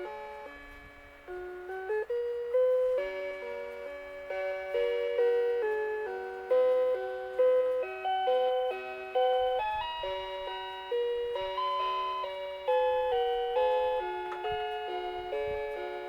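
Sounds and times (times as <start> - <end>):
alarm clock electronic melody: 0.0 - 16.0.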